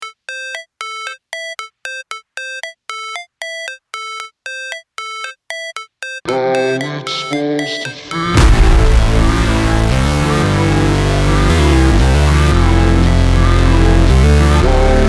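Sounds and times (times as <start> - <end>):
electronic beat with bass and drums: 0.0 - 15.0.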